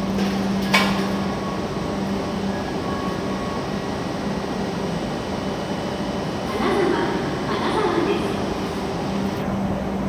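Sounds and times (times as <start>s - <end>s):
train air-conditioning blowers humming: 0.0s - 10.0s.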